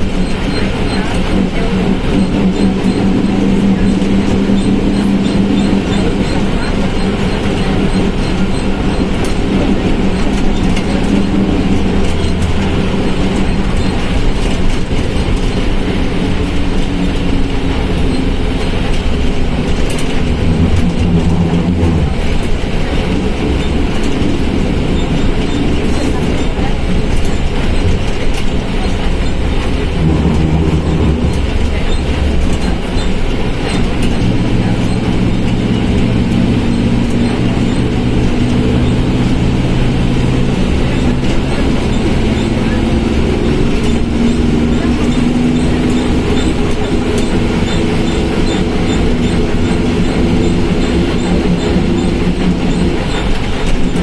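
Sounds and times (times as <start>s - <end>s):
bus diesel engine running: 0.0s - 54.0s
growling transmission: 1.1s - 54.0s.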